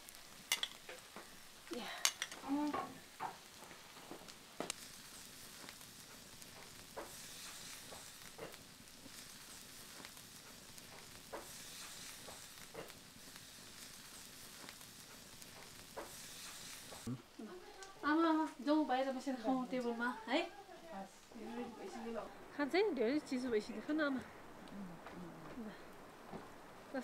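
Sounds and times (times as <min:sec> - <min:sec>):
fire crackling and popping: 0:00.0 - 0:27.0
food sizzling on hot stone: 0:00.0 - 0:27.0.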